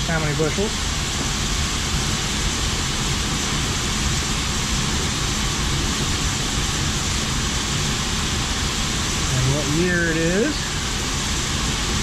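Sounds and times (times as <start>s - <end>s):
grain machinery rushing noise: 0.0s - 12.0s
low machinery rumble: 0.0s - 12.0s.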